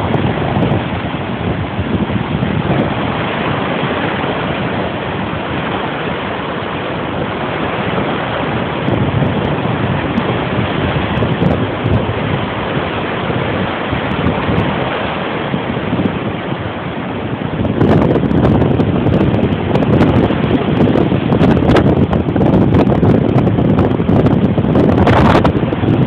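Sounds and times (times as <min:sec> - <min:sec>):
surf breaking in shallows: 0:00.0 - 0:26.0
wind buffeting microphone: 0:00.0 - 0:26.0.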